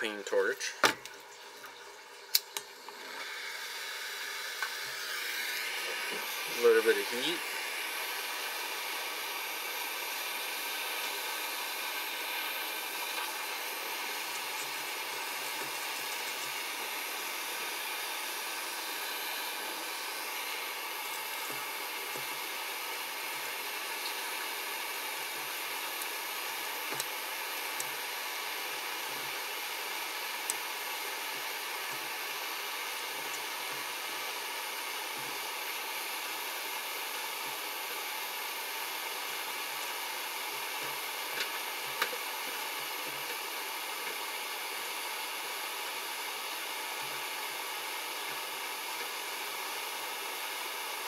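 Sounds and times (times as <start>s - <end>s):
propane torch hissing: 2.3s - 51.0s.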